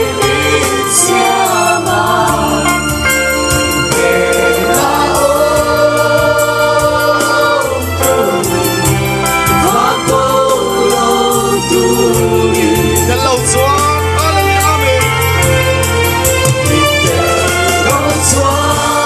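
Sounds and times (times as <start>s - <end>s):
group of voices singing: 0.0s - 13.6s, 15.9s - 19.0s
steady bass: 0.0s - 19.0s
sustained instrumental chords: 0.0s - 19.0s.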